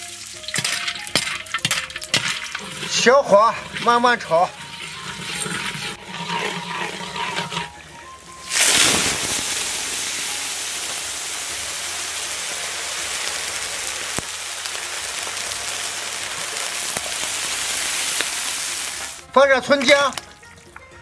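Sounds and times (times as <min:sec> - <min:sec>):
water hissing in hot wok: 0:00.0 - 0:19.3.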